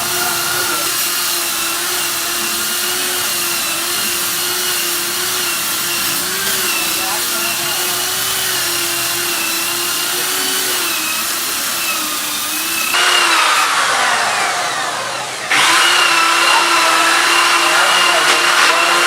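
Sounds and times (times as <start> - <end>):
electric power tool whining: 0.0 - 19.0.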